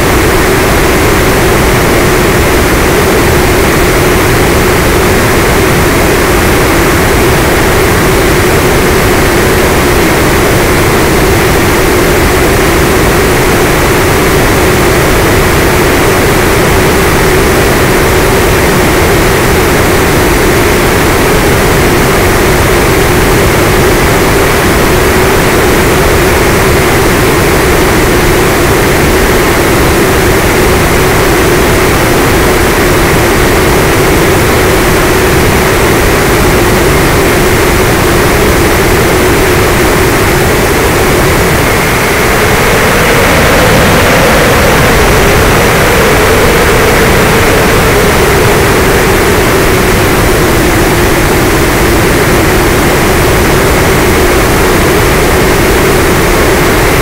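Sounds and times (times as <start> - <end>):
electric motor hum and whine: 0.0 - 57.0
heavy wind rush: 0.0 - 57.0.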